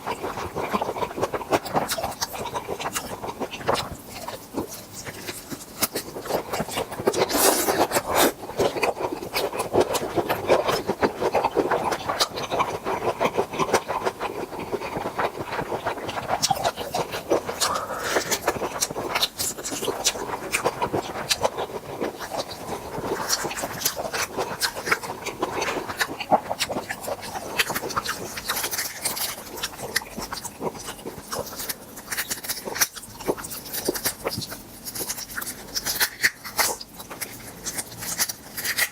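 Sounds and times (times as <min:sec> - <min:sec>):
wet chewing and lip-smacking: 0:00.0 - 0:38.9.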